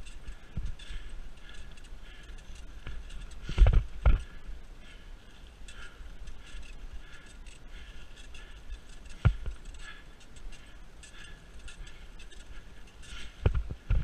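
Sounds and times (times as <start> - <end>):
bike tyres rustling on dry leaves: 0.0 - 14.0.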